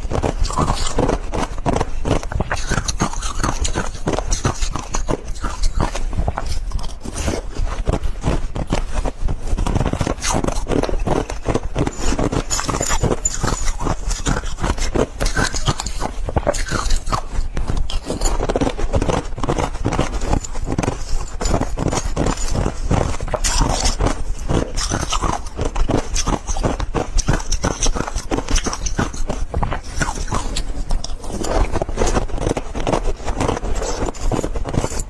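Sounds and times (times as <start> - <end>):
ice crunching: 0.0 - 35.0.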